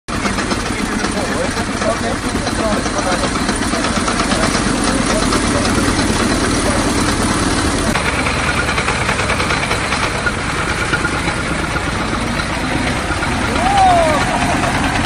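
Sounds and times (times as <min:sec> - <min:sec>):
veteran car engine idling: 0:00.1 - 0:15.0.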